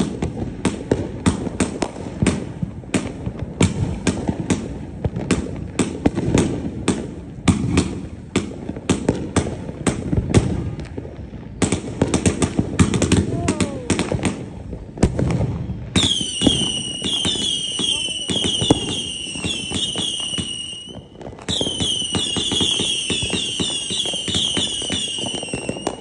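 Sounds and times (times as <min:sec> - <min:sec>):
fireworks cracking and popping: 0:00.0 - 0:26.0.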